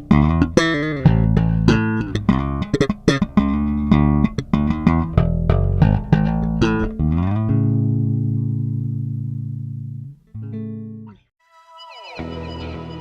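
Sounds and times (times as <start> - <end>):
electric bass plucked notes: 0.0 - 11.3.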